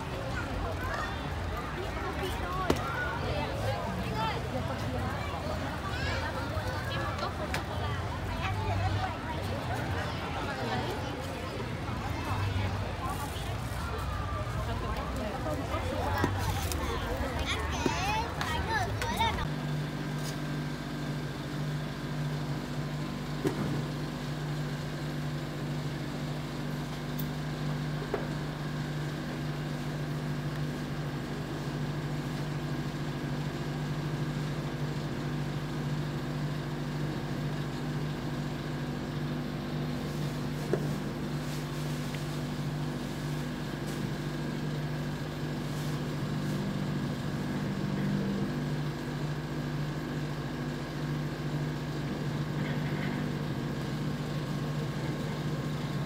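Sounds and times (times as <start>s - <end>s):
refrigeration compressor hum: 0.0s - 56.0s.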